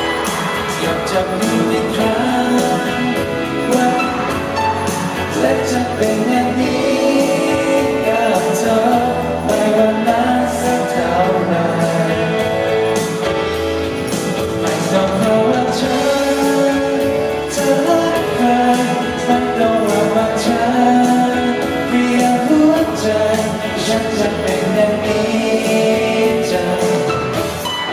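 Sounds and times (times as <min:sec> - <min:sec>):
piano: 0:00.0 - 0:27.9
man singing into a microphone: 0:00.1 - 0:13.3, 0:14.4 - 0:27.9.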